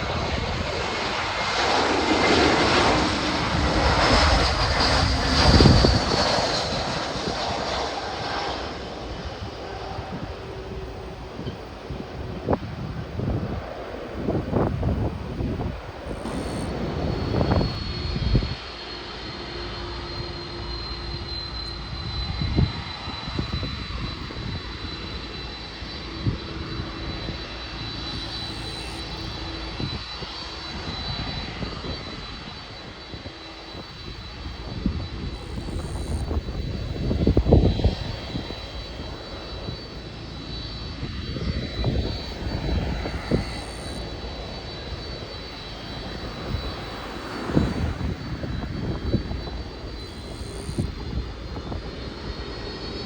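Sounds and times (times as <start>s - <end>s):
airliner engines whining: 0.0s - 53.0s.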